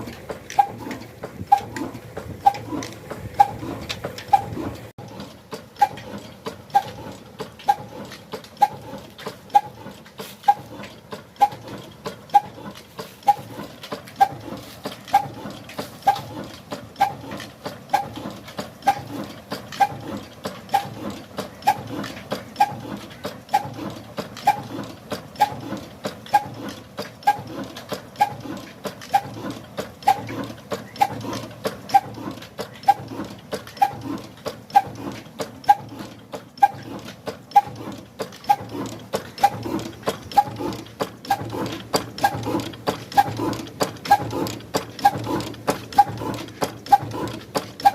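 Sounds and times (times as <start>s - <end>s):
engine thudding beat: 0.0s - 47.9s.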